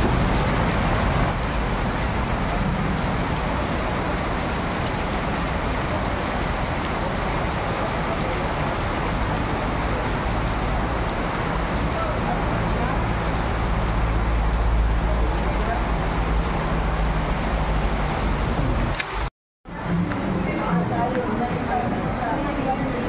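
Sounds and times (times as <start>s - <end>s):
heavy rain on a street: 0.0s - 23.0s
traffic on a flooded road: 0.0s - 23.0s.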